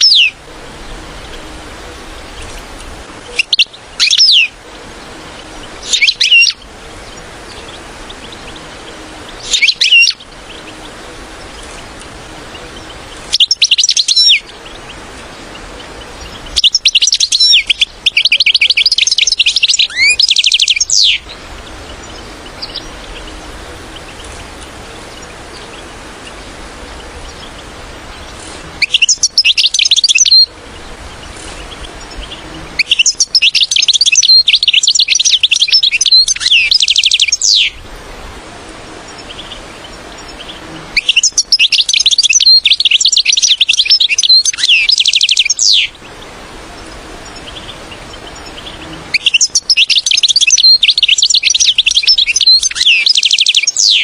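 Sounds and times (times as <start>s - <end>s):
goldfinch twittering: 0.0s - 37.9s, 38.7s - 54.0s
low hiss: 0.0s - 54.0s.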